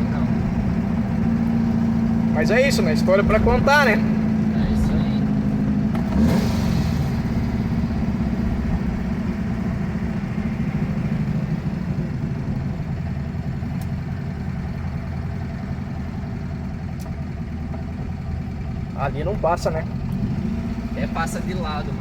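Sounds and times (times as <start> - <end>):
car engine from inside cabin: 0.0 - 22.0.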